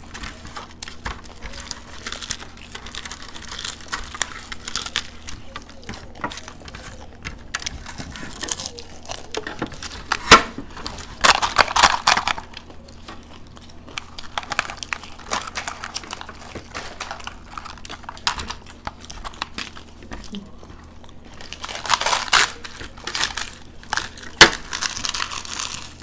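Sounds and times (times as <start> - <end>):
crisp shells crackling: 0.0 - 26.0
crunching and chewing: 0.0 - 26.0.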